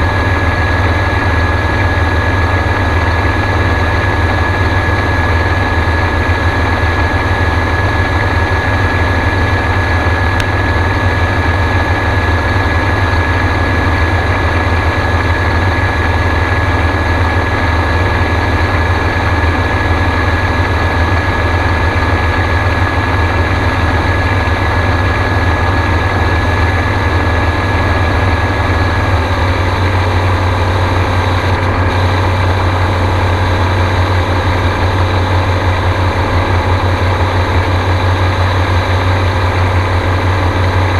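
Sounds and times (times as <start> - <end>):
aircraft engine and propeller drone: 0.0 - 40.9.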